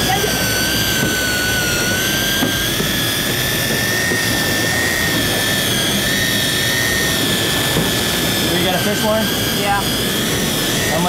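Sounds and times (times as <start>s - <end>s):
constant rushing noise: 0.0s - 11.0s
fishing reel motor whining: 0.0s - 11.0s.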